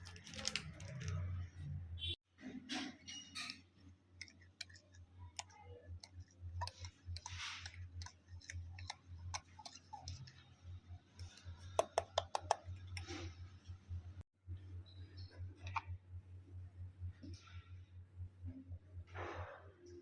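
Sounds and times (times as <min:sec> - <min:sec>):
low steady hum: 0:03.1 - 0:20.0.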